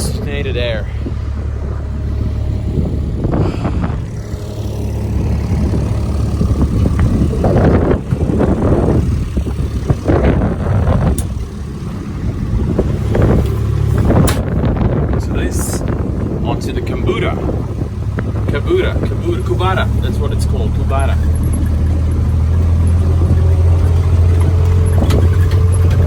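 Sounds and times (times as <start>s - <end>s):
farm vehicle engine rumbling: 0.0s - 26.0s.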